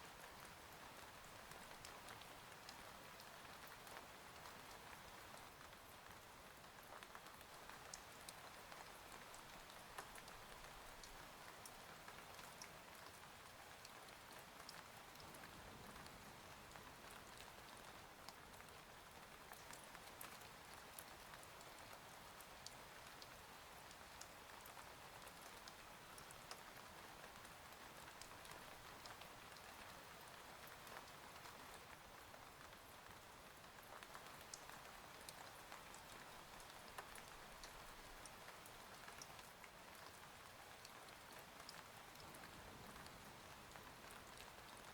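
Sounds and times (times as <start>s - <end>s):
rain on a window: 0.0s - 44.9s.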